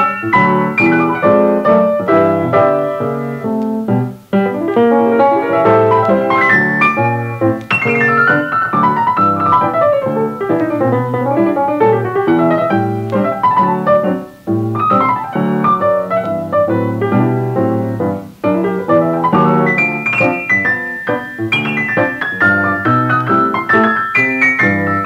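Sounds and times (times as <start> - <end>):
easy-listening piano music: 0.0 - 25.0.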